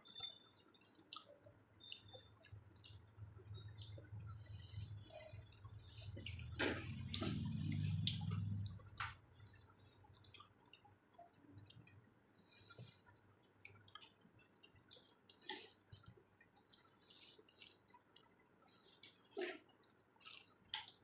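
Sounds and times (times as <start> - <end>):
wet eating sounds: 0.0 - 21.0.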